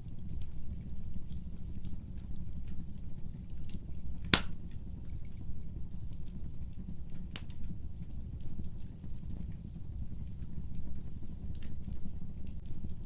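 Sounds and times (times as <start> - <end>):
fire burning in fireplace: 0.0 - 13.0
fire crackling and popping: 0.0 - 13.0.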